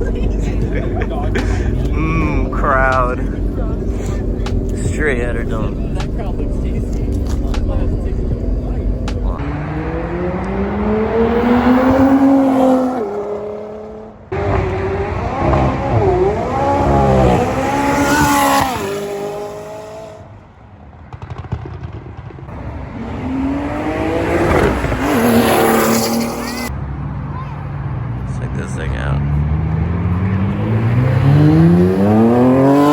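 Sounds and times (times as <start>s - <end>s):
car engines revving and accelerating: 0.0s - 20.5s, 22.5s - 32.9s.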